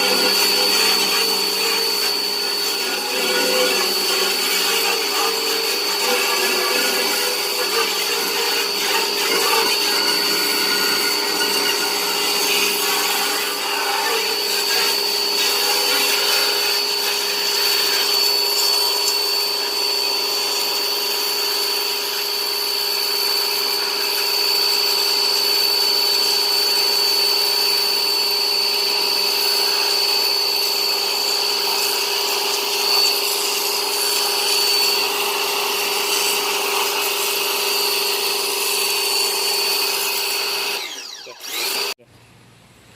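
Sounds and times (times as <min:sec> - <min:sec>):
electric motor whining: 0:00.0 - 0:42.0.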